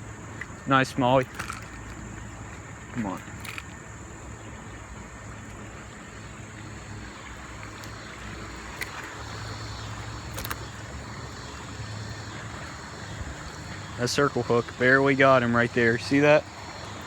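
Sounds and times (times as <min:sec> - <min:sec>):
river water running over rocks: 0:00.0 - 0:17.0.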